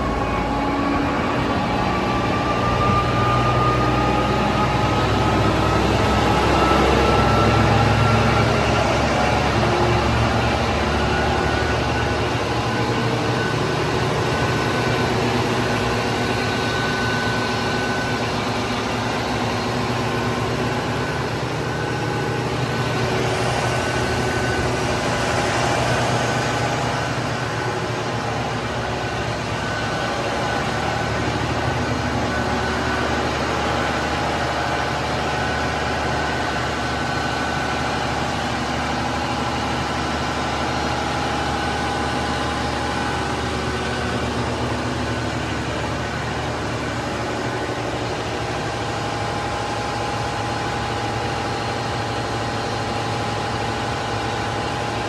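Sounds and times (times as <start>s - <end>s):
diesel generator engine running: 0.0s - 55.0s.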